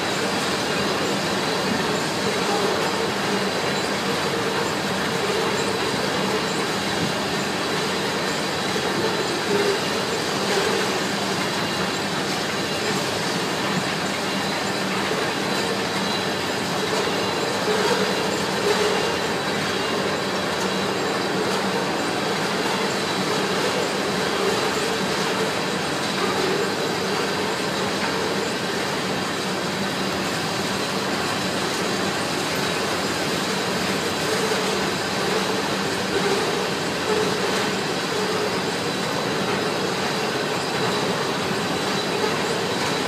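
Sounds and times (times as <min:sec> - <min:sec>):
freight train wheels rumbling on rail: 0:00.0 - 0:43.0.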